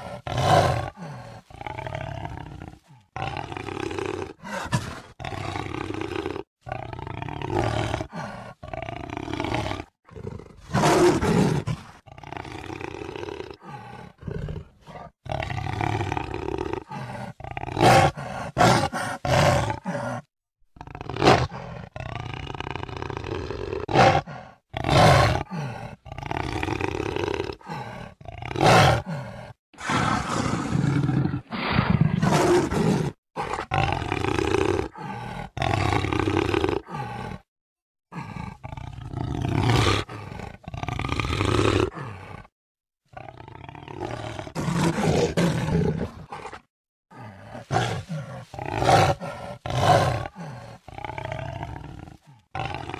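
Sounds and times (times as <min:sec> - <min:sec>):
jaguar roaring: 0:00.0 - 0:37.5, 0:38.1 - 0:42.5, 0:43.2 - 0:52.9.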